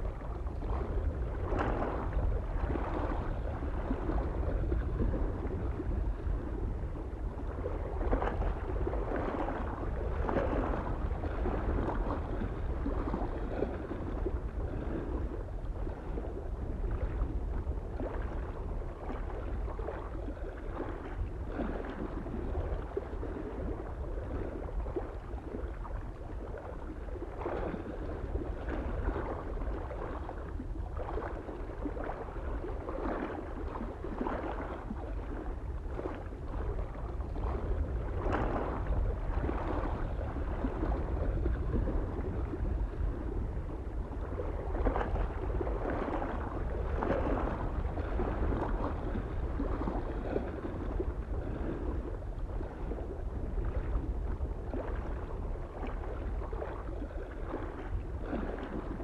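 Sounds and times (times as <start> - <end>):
small waves lapping on shore: 0.0 - 59.0
soft wind rumble: 0.0 - 59.0.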